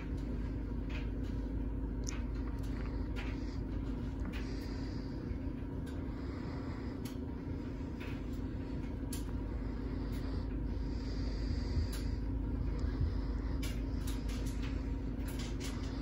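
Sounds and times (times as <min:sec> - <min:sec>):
ceiling fan motor humming: 0:00.0 - 0:16.0.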